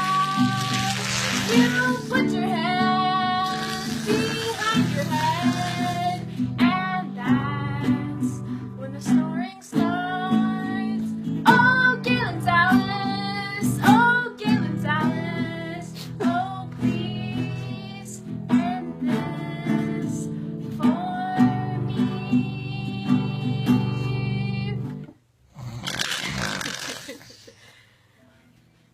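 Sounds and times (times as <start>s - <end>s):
person singing: 0.0s - 24.9s.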